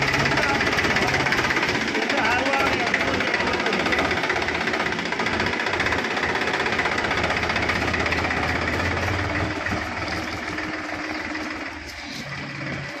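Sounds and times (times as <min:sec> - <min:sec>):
tractor diesel engine knocking: 0:00.0 - 0:13.0.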